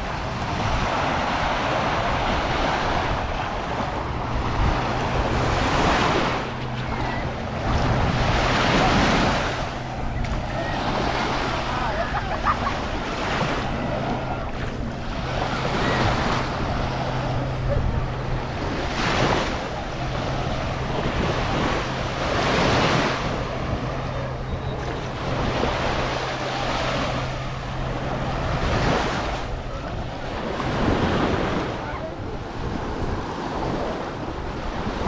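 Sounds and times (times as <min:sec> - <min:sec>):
small waves washing onto shore: 0:00.0 - 0:35.0
steady low hum: 0:00.0 - 0:35.0
wind on microphone: 0:00.0 - 0:35.0.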